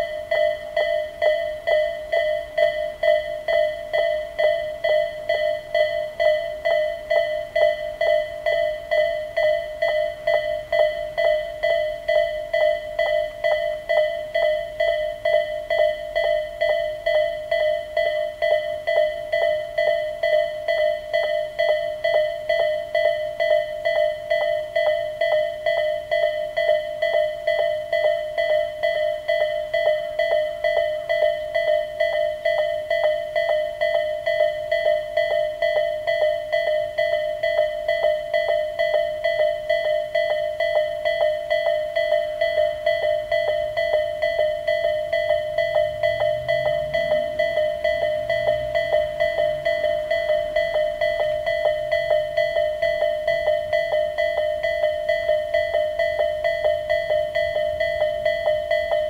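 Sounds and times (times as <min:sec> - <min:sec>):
level crossing warning bell: 0:00.0 - 0:59.0.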